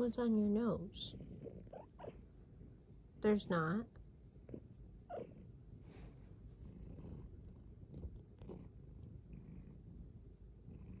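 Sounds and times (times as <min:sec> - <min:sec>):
cat purring: 0:00.3 - 0:11.0.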